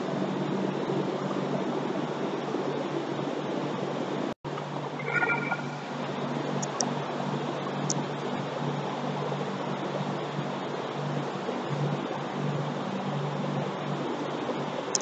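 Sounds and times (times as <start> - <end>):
machinery running with low hum: 0.0 - 15.0.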